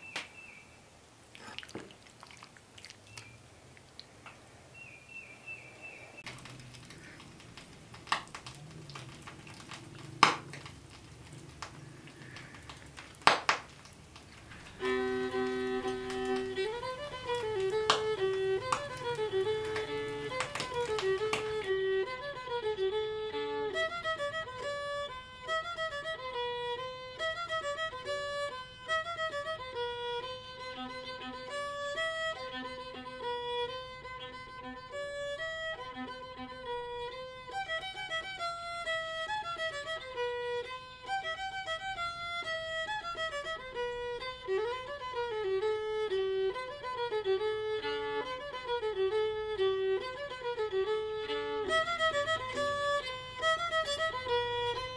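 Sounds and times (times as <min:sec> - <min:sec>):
fiddle melody: 0:06.2 - 0:54.9.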